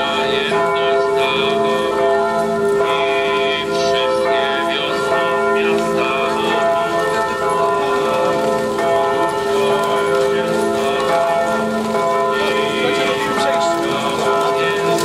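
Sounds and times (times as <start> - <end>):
bells pealing: 0.0 - 15.0.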